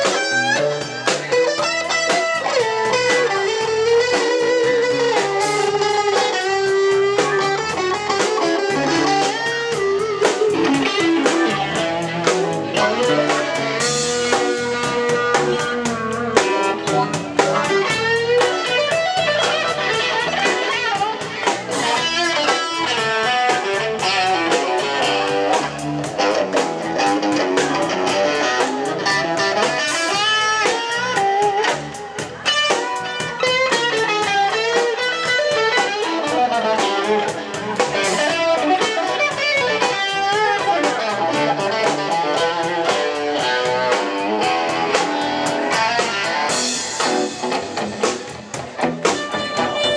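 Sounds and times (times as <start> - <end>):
drum hits: 0.0 - 49.9
electric bass: 0.0 - 49.9
electric guitar with bent notes: 0.0 - 49.9.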